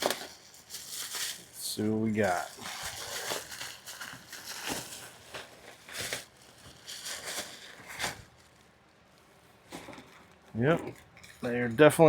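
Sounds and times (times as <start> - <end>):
packaging rustling and crinkling: 0.0 - 11.6.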